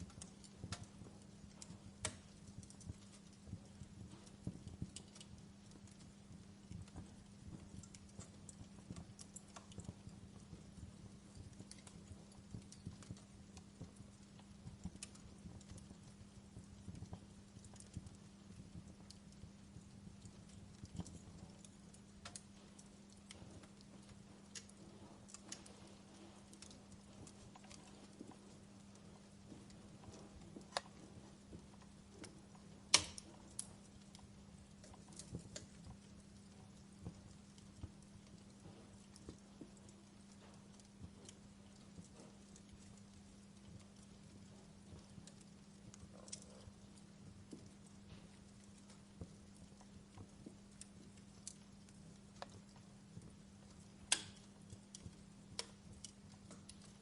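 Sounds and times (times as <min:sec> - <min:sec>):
fire crackling: 0:00.0 - 0:57.0
steady low hum: 0:00.0 - 0:57.0.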